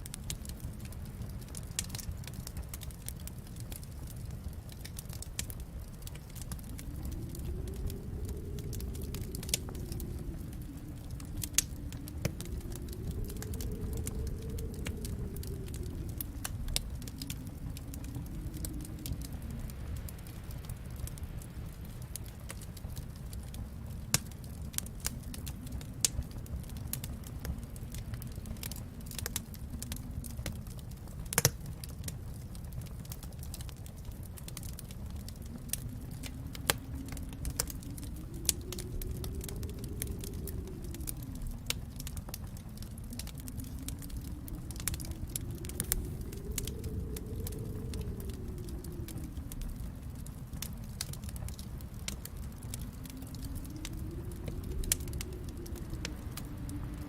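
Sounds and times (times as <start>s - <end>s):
low rumble: 0.0s - 57.0s
wind moaning: 0.0s - 57.0s
wood fire crackling and popping: 0.0s - 57.0s.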